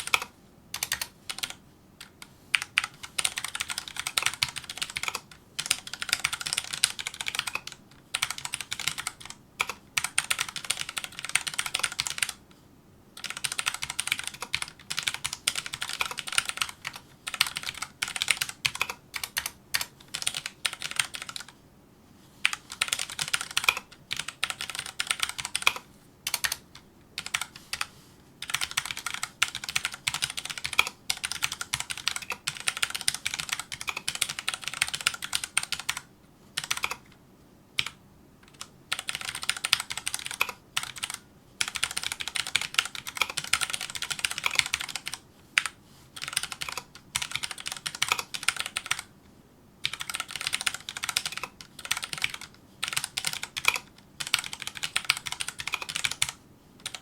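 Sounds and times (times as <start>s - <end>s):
mechanical keyboard typing: 0.0s - 12.4s, 13.2s - 21.6s, 22.4s - 37.2s, 37.8s - 49.1s, 49.8s - 57.0s.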